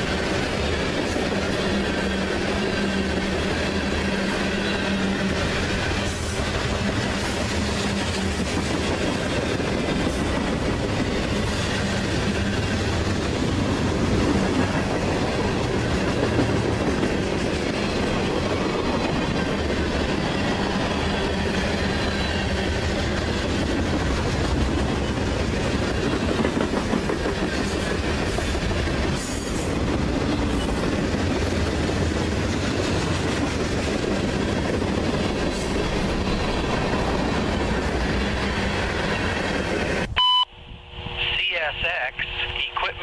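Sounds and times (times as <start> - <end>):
train rumble: 0.0 - 43.0.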